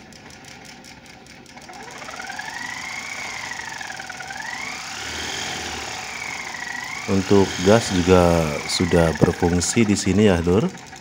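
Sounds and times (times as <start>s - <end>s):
model engine whine: 0.0s - 11.0s.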